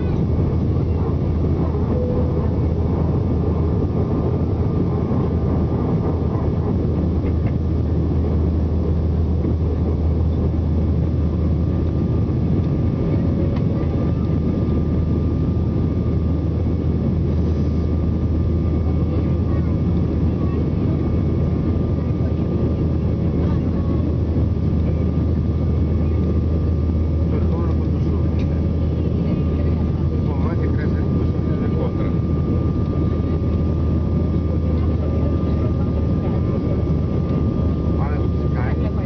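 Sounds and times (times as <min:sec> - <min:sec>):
faint whine: 0:00.0 - 0:39.0
jet engine cabin rumble: 0:00.0 - 0:39.0.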